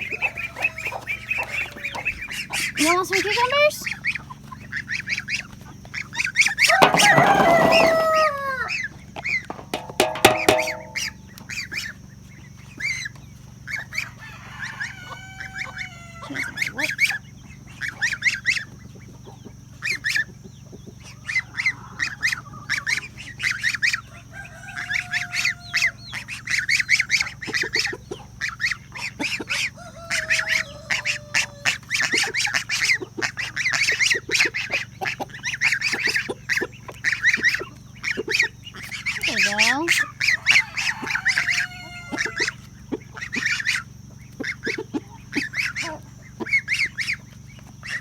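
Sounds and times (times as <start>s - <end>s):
poultry calling: 0.0s - 48.0s.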